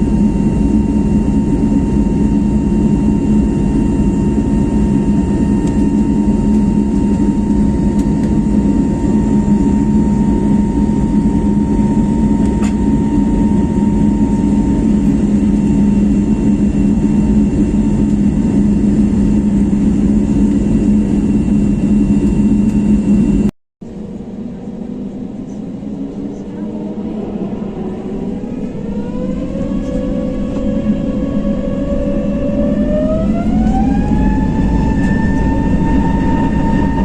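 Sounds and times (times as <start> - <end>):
jet engines rumbling with whine: 0.0 - 37.0.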